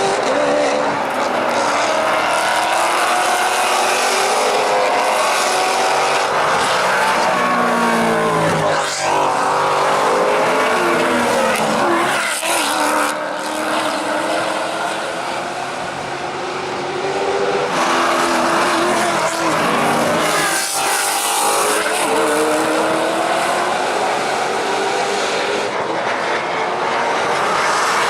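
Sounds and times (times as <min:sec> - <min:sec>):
race cars passing at speed: 0:00.0 - 0:28.0.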